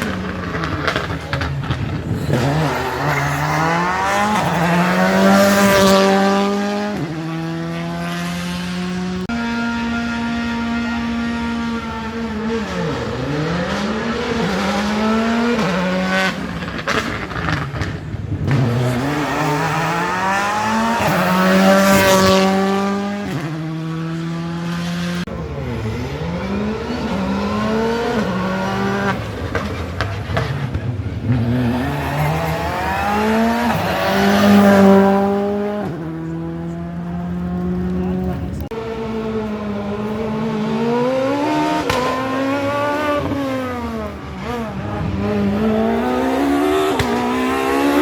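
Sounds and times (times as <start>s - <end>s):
rally car engines shifting gears: 0.0s - 48.0s
rally cars passing: 0.0s - 48.0s.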